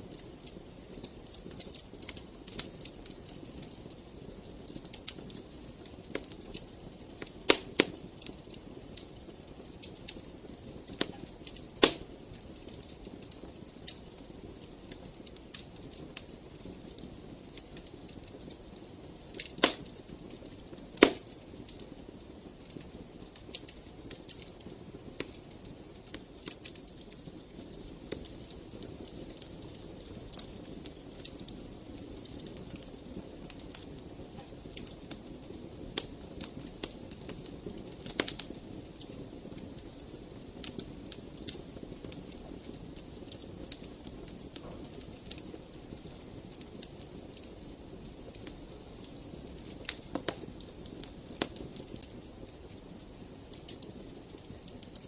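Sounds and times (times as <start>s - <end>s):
flames rustling: 0.0s - 55.0s
loud fire snaps: 0.0s - 55.0s
wood fire crackling: 0.0s - 55.0s.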